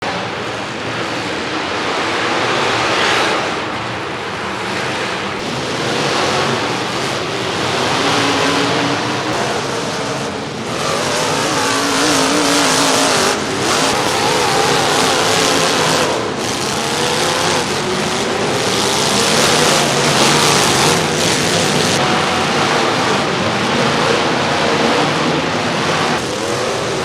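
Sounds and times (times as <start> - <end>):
car engines revving hard: 0.0 - 27.0
engine pitch wavering: 3.5 - 27.0.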